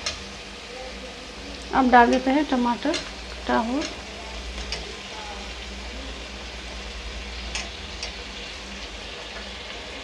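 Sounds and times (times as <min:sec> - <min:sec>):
spices sizzling in a pan: 0:00.0 - 0:10.0.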